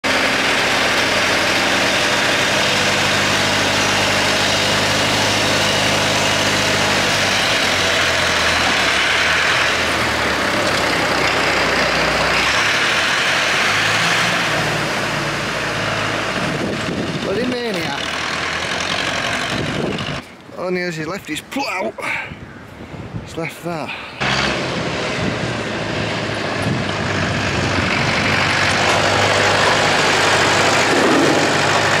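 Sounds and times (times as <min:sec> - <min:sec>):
tractor diesel engine: 0:00.0 - 0:20.3, 0:23.7 - 0:32.0.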